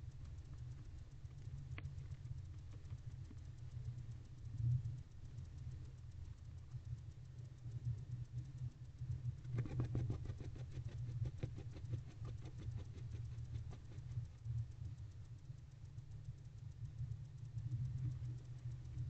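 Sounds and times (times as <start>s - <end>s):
low hum: 0.0s - 19.0s
owl preening clicks and rustles: 0.0s - 19.0s.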